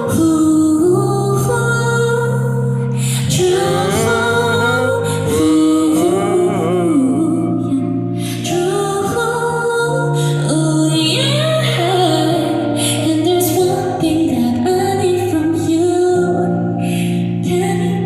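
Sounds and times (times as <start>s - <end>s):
woman singing pop ballad: 0.0s - 18.0s
held low chords: 0.1s - 17.5s.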